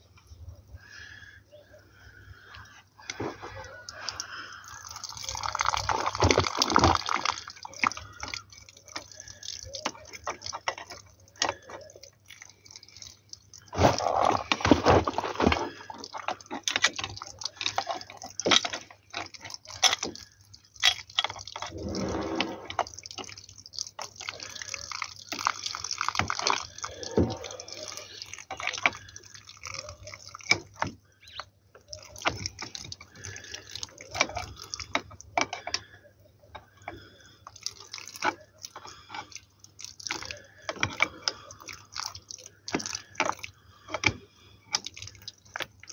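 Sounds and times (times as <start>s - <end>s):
water dripping and splashing: 2.2s - 45.9s.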